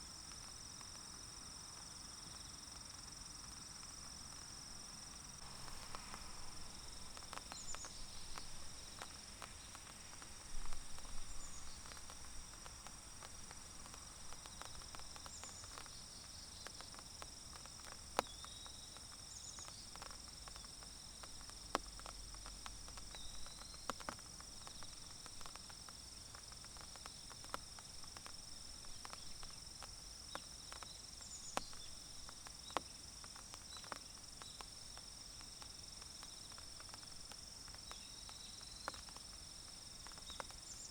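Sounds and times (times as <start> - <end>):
insects trilling: 0.0 - 40.9
raindrops dripping on leaves: 0.0 - 40.9.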